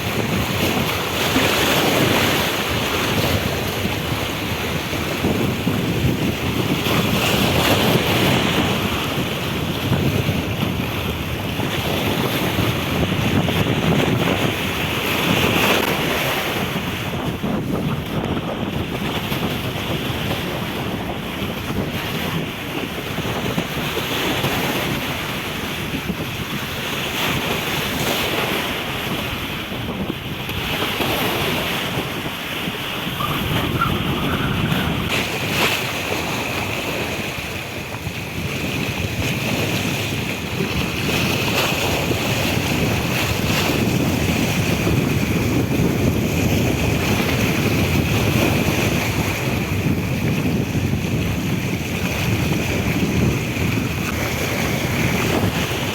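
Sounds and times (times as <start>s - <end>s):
sea water washing: 0.0s - 55.9s
wind buffeting microphone: 0.0s - 55.9s.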